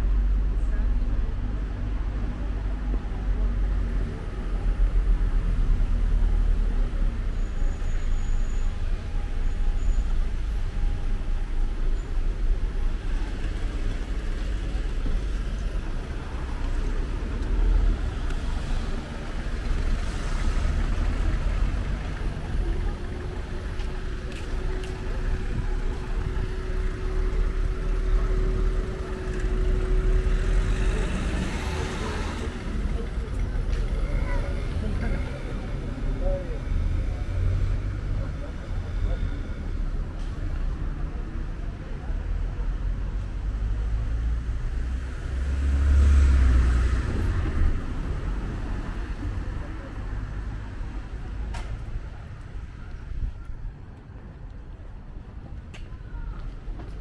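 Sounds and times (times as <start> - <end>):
low traffic rumble: 0.0 - 57.0
cars passing: 8.7 - 55.6.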